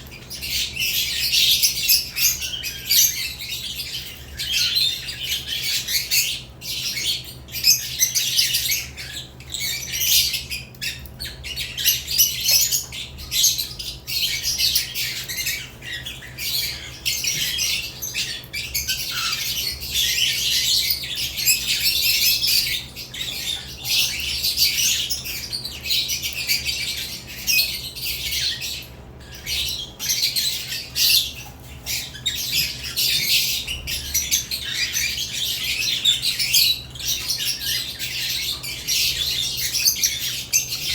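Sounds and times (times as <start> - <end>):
birds chattering and squawking: 0.0 - 40.9.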